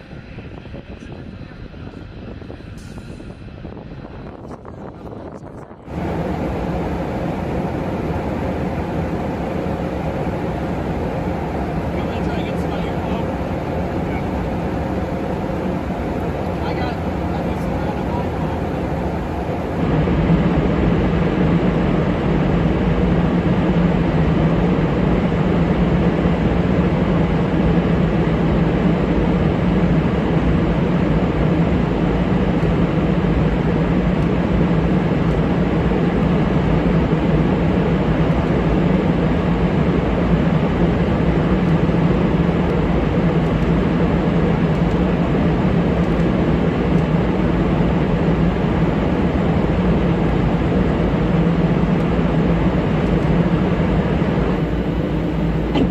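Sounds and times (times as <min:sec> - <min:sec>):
jet engine roar: 0:00.0 - 0:55.9.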